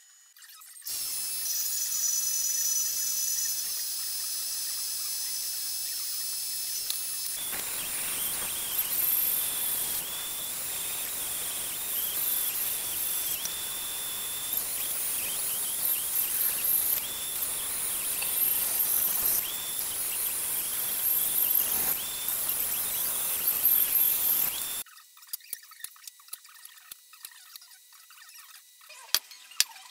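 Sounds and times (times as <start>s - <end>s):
bandsaw cutting steel: 0.9s - 24.8s.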